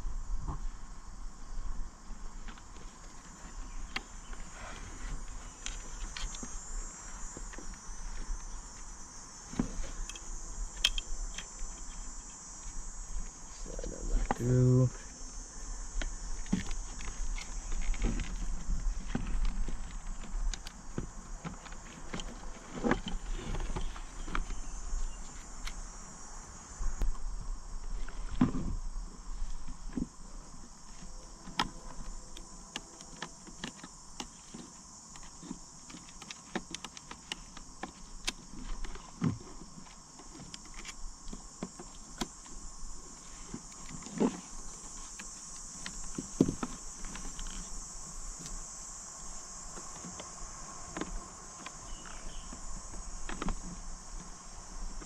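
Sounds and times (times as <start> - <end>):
steady high-pitched hiss: 0.0 - 55.0.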